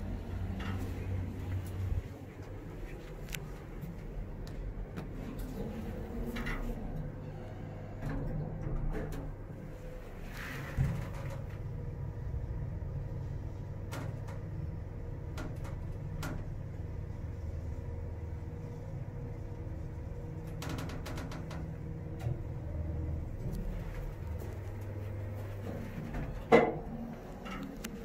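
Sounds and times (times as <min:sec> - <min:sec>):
elevator low rumble: 0:00.0 - 0:28.0
faint steady hum: 0:00.0 - 0:28.0.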